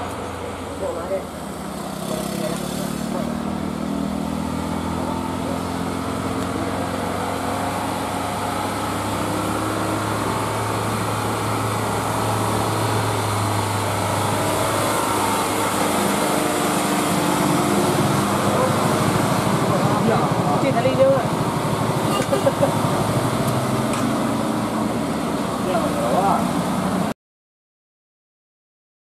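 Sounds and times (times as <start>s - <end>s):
diesel truck engine under load: 0.0s - 27.1s.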